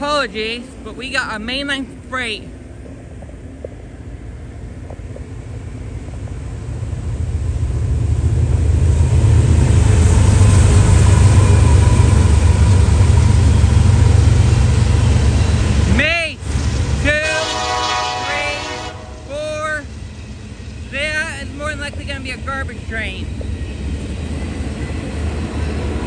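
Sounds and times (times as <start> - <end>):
diesel locomotive engine rumble: 0.0 - 26.0.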